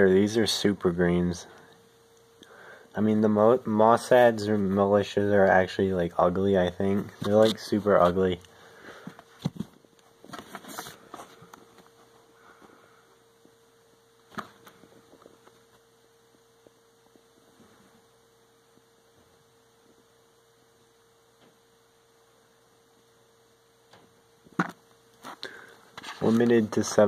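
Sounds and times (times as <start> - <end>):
faint electrical hum: 0.0 - 27.0.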